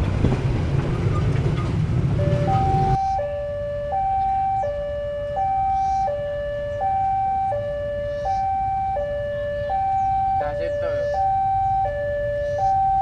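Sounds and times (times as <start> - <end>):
level crossing two-tone alarm: 2.2 - 13.0.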